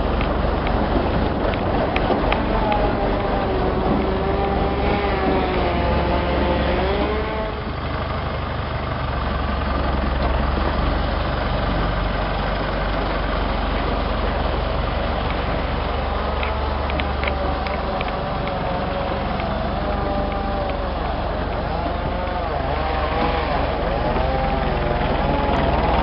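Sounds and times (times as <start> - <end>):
wavering whine: 0.0 - 9.4, 10.8 - 26.0
vehicle engine low rumble: 0.0 - 26.0.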